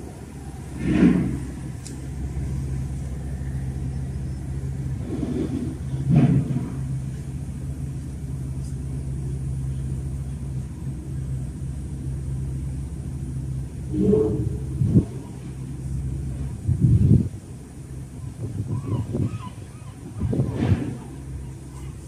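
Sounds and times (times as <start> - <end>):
rumbling drone: 0.0 - 22.0
steady low hum: 0.0 - 22.0.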